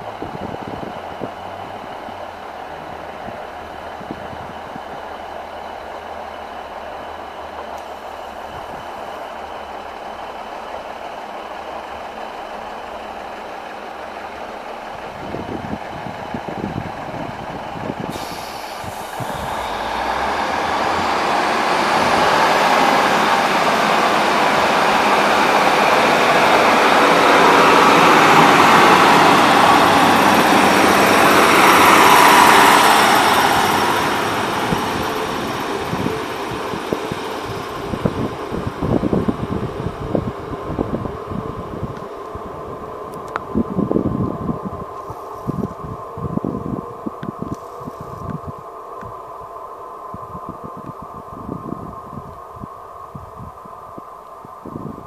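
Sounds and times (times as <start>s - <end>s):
diesel train idling: 0.0s - 55.0s
train accelerating past: 0.0s - 55.0s.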